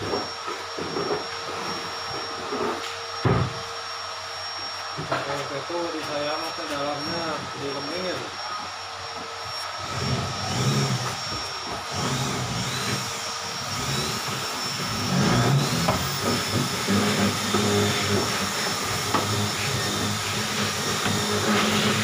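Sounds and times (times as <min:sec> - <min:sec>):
machine motor humming: 0:00.0 - 0:22.0.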